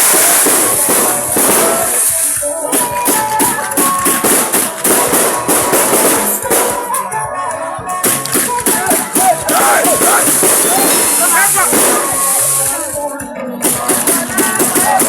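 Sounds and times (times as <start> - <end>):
loud dense hiss: 0.0 - 7.0, 8.0 - 15.0
music with tambourine beat: 0.0 - 15.0.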